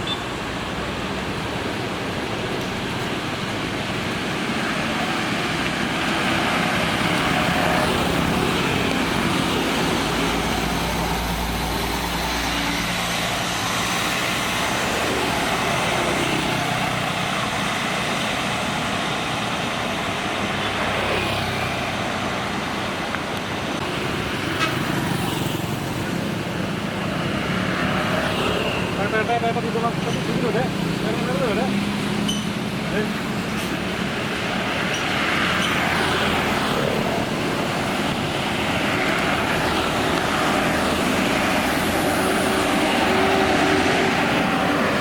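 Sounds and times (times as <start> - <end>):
bus engines running: 0.0 - 45.0
deep engine rumble of passing bus: 0.0 - 45.0.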